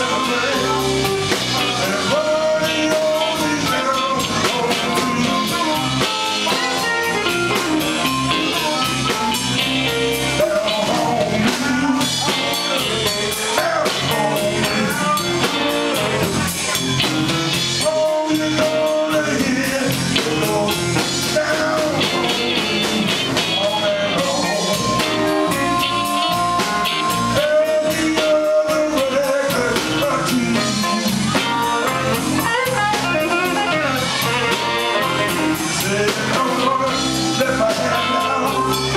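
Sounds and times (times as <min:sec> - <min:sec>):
drum kit: 0:00.0 - 0:38.9
electric bass: 0:00.0 - 0:38.9
electric guitars: 0:00.0 - 0:38.9
harmonica: 0:00.0 - 0:38.9
man singing: 0:00.0 - 0:38.9.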